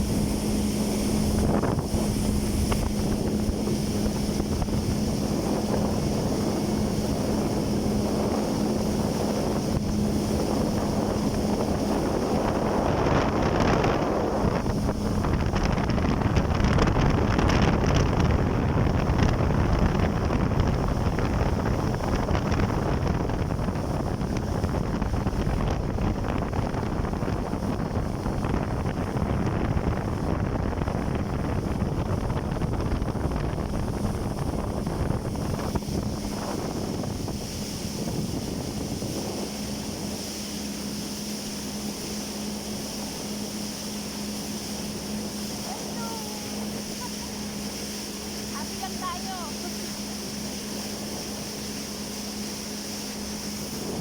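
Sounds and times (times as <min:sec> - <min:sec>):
jet ski engine hum: 0:00.0 - 0:54.0
rushing water: 0:00.0 - 0:54.0
wind buffeting microphone: 0:00.0 - 0:54.0.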